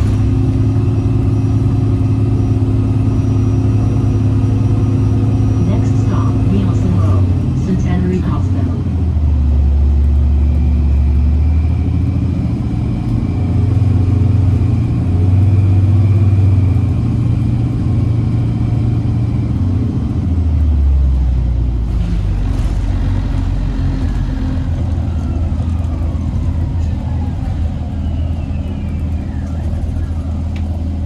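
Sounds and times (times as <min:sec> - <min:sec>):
bus diesel engine rumble: 0:00.0 - 0:31.0.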